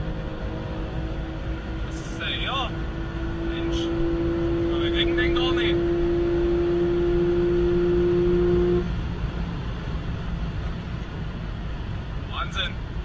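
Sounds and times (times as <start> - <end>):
car engine droning: 0.0 - 13.0
wind and tyre noise: 0.0 - 13.0.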